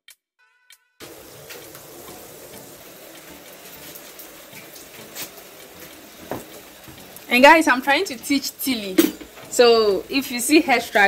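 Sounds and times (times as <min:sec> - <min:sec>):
steady rain falling: 0:01.0 - 0:11.0.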